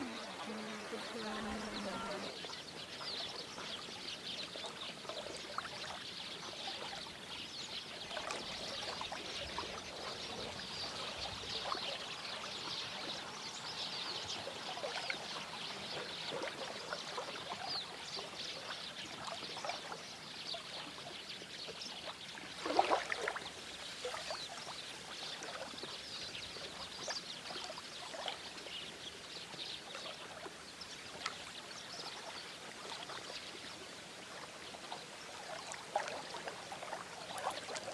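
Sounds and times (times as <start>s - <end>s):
stream splashing and trickling: 0.0s - 37.9s.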